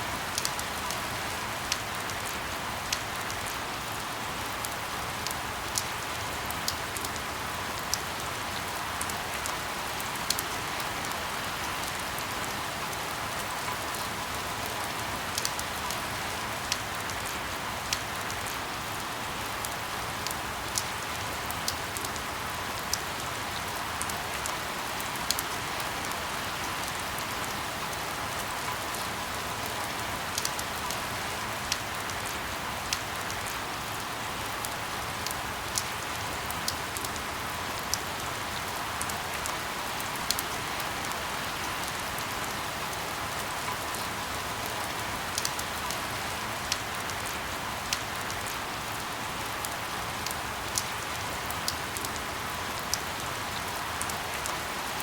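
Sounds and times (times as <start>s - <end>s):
steady rain hiss: 0.0s - 55.0s
sharp rain ticks: 0.1s - 55.0s.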